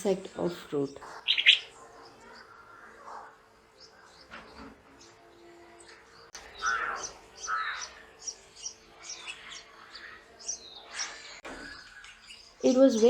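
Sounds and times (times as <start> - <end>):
birds chirping: 0.0 - 13.0
louder lower bird calls: 1.0 - 5.2, 5.8 - 13.0.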